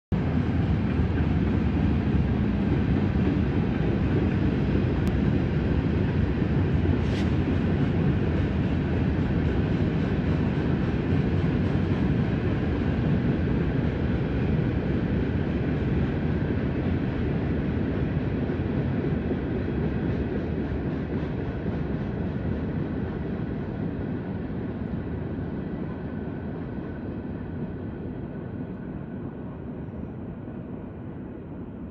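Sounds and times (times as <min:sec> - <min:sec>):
heavy train rumbling past: 0:00.1 - 0:31.9.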